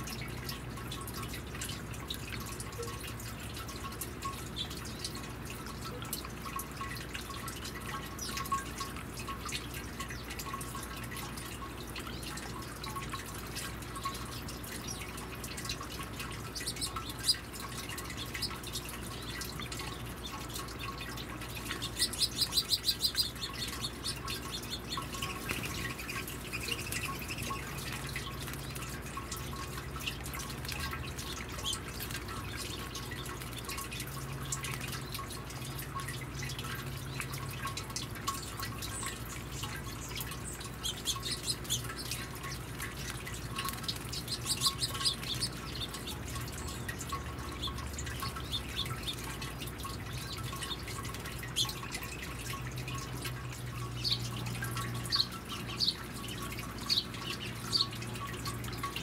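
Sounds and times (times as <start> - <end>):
birds chirping: 0.0 - 59.0
fountain water trickling: 0.0 - 59.0.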